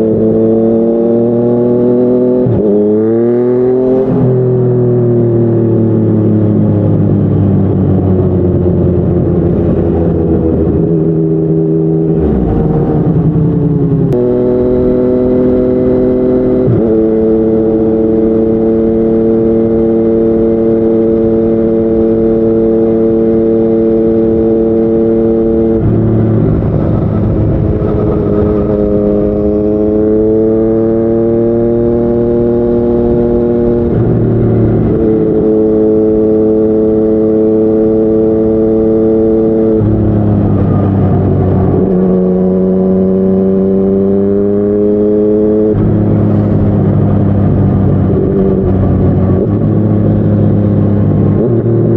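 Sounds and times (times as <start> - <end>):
motorcycle engine on the road: 0.0 - 51.9.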